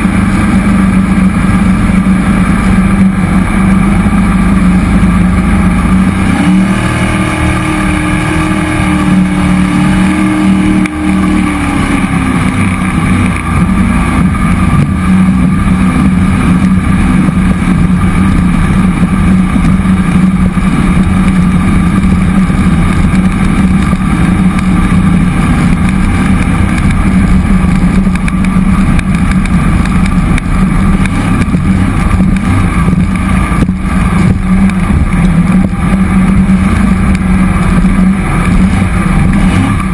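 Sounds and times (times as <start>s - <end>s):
boat engine running: 0.0s - 39.9s
higher engine tone: 0.0s - 39.9s.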